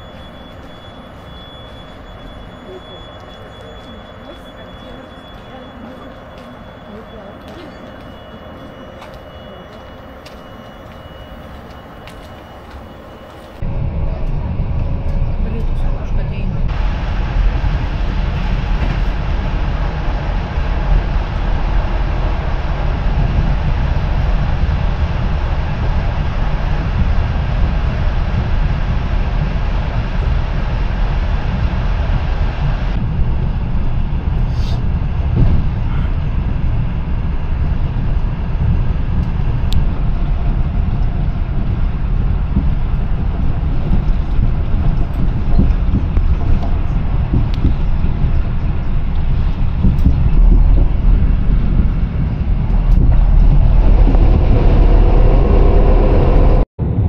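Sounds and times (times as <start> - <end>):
passing train rushing: 0.0 - 57.0
train rumble and rail noise: 0.0 - 57.0.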